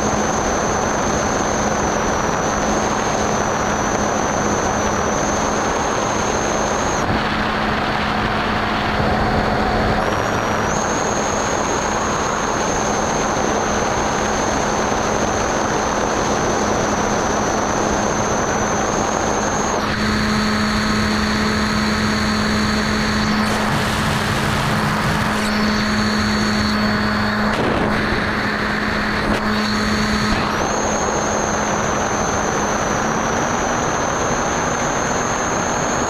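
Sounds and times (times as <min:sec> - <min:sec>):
electric motor and propeller whine: 0:00.0 - 0:36.0.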